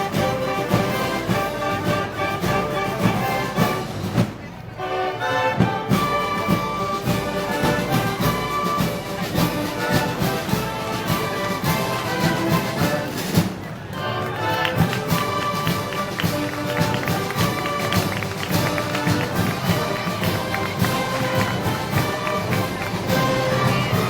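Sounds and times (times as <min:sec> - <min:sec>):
steady drum beat: 0:00.0 - 0:04.4, 0:05.6 - 0:13.7, 0:14.6 - 0:24.0
brass band music: 0:00.0 - 0:24.0.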